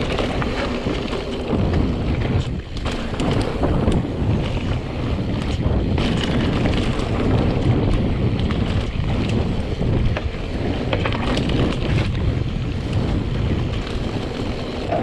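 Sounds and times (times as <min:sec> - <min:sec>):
bike clicks and rattles: 0:00.0 - 0:15.0
bike rolling over dirt trail: 0:00.0 - 0:15.0
wind rushing over microphone: 0:00.0 - 0:15.0.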